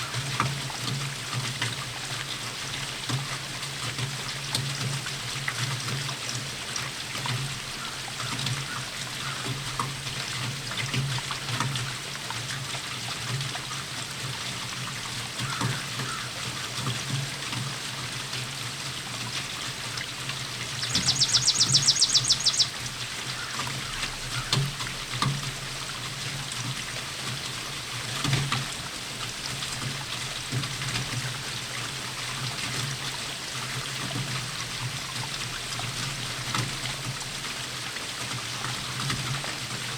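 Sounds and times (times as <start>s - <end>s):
steady rainfall: 0.0s - 39.9s
water trickling and dripping: 0.0s - 39.9s.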